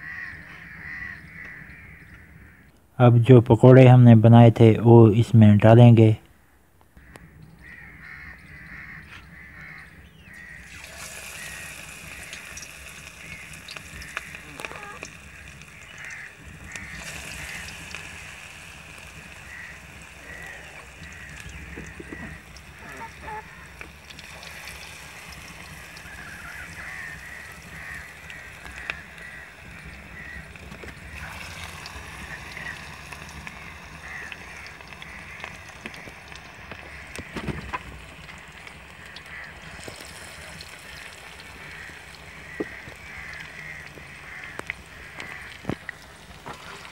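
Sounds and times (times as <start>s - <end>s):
batter deep-frying sizzle: 7.0s - 46.9s.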